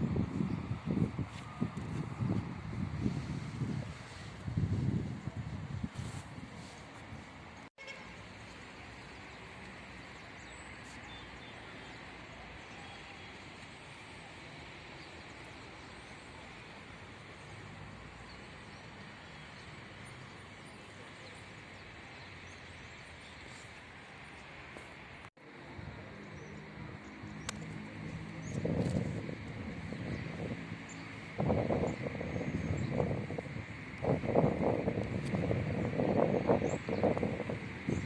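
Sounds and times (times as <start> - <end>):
steady outdoor ambient hiss: 0.0 - 38.0.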